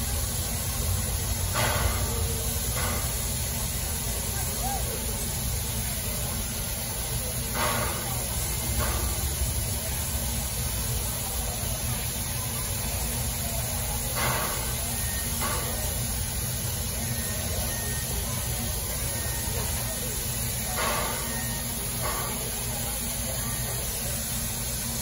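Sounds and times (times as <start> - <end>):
short loud steam hisses: 0.0 - 25.0
steam locomotive hissing: 0.0 - 25.0.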